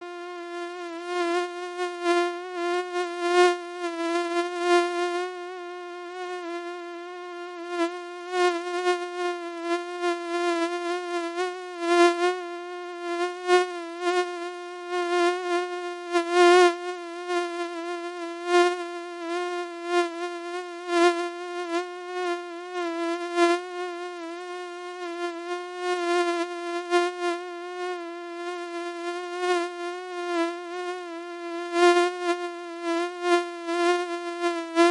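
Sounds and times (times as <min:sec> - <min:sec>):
mosquito whine: 0:00.0 - 0:34.9.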